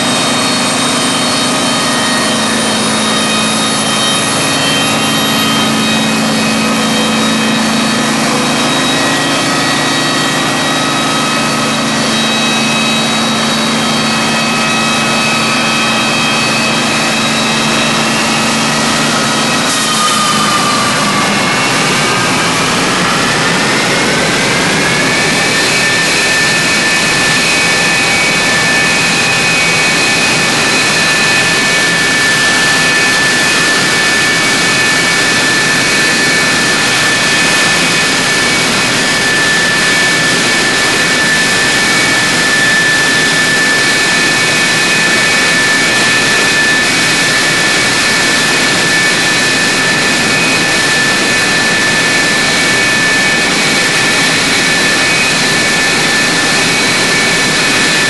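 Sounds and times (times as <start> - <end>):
jet engine whine and roar: 0.0 - 58.0.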